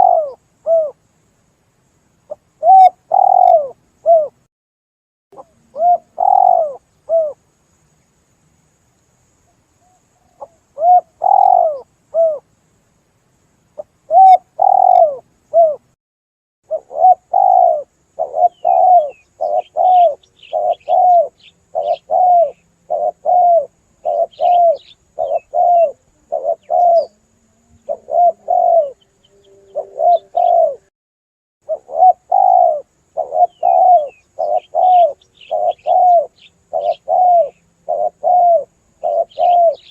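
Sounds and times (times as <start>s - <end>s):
dove cooing: 0.0s - 1.0s, 2.3s - 4.4s, 5.4s - 7.4s, 9.8s - 12.4s, 13.8s - 15.9s, 16.7s - 30.9s, 31.6s - 39.9s
small birds chirping: 0.0s - 1.4s, 2.1s - 4.5s, 5.4s - 15.9s, 16.7s - 30.9s, 31.6s - 39.9s.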